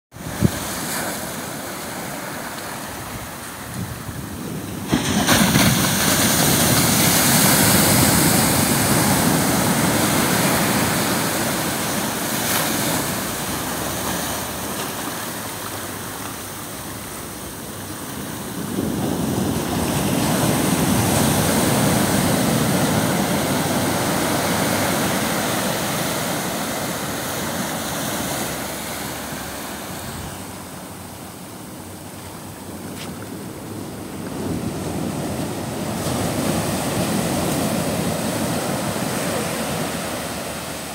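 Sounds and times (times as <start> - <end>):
ocean surf washing on beach: 0.1 - 40.9.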